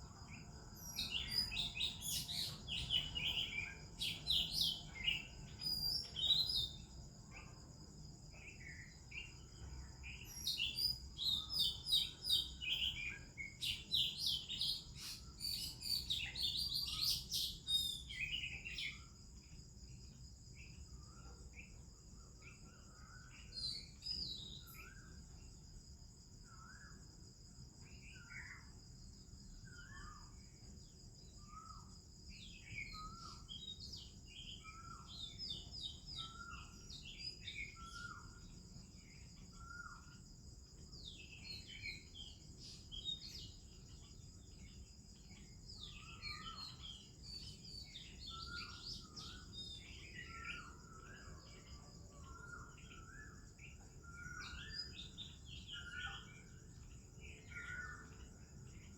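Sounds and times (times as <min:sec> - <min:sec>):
birds chirping and warbling: 0:00.0 - 0:25.7, 0:27.8 - 0:58.9
high insect drone: 0:00.0 - 0:58.9.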